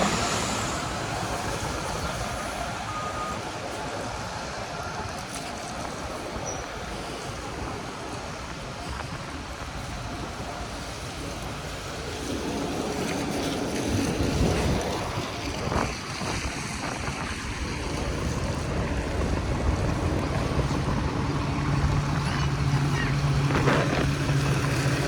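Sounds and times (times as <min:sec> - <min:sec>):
tyres hissing on wet street: 0:00.0 - 0:25.0
wind on microphone: 0:00.0 - 0:25.0.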